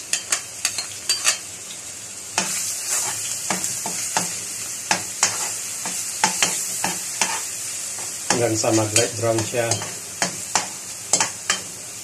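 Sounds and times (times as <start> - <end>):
garlic sizzling in oil: 0.0 - 12.0
metal spatula scraping a pan: 0.2 - 1.5, 2.4 - 11.7.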